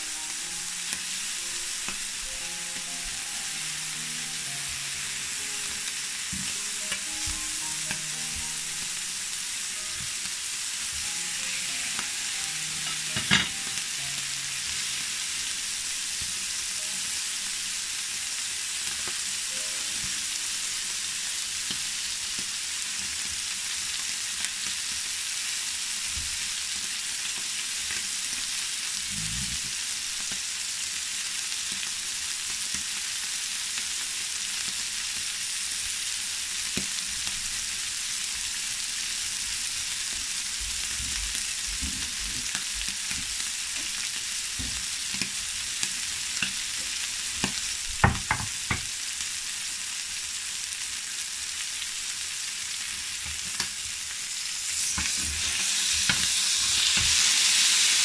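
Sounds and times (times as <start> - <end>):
steaks sizzling in a pan: 0.0 - 58.0.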